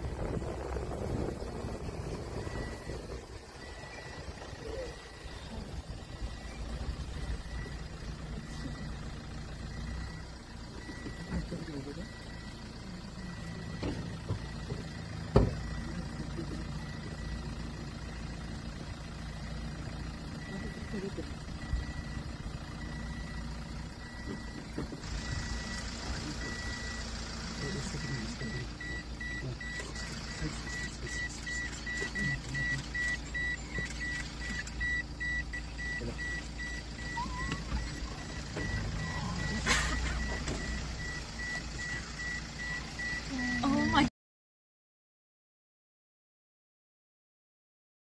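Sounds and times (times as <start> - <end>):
low engine-like rumble: 0.0 - 44.1
car warning beeper: 0.2 - 44.1.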